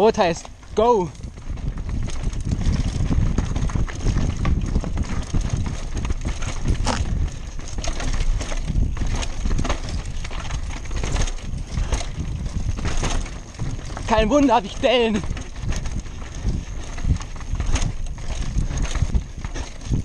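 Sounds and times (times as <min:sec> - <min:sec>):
mountain bike rattling over rocks: 0:00.0 - 0:20.0
wind rumble on microphone: 0:00.0 - 0:20.0.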